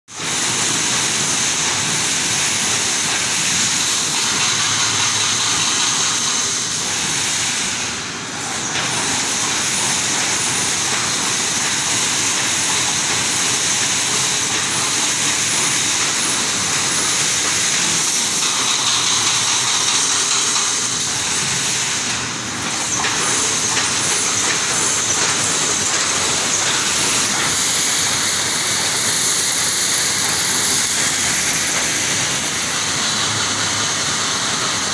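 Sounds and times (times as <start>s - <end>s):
factory machinery hissing: 0.2s - 34.9s.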